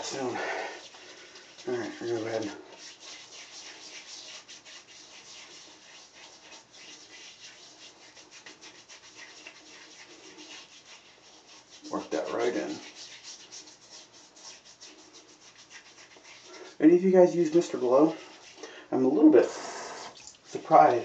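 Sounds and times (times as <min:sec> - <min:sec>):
hands rubbing stubbled skin: 0:00.0 - 0:18.8.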